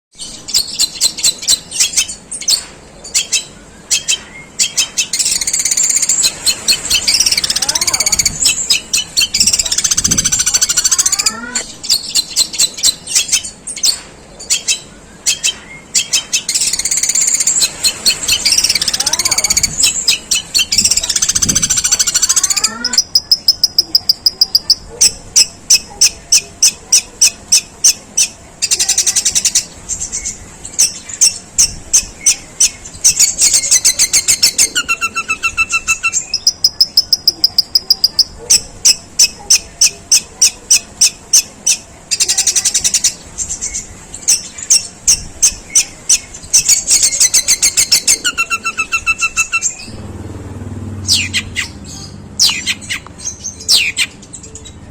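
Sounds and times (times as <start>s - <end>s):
rasping bird chatter: 0.1s - 50.0s, 51.0s - 54.9s
shrike singing rapid high chirps: 3.2s - 13.8s, 14.5s - 50.1s.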